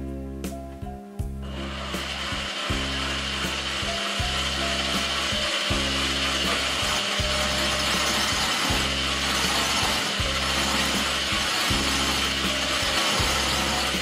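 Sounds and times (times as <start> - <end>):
electric drill running: 1.4 - 14.0.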